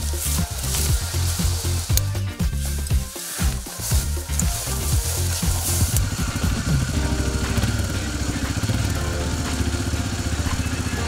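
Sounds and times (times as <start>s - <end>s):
rustling hiss: 0.0s - 10.8s
quad engine running: 0.0s - 11.0s.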